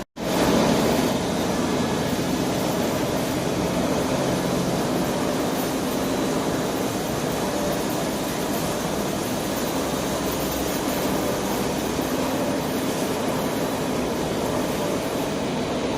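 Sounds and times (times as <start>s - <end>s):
lathe humming and whirring: 0.2s - 15.9s.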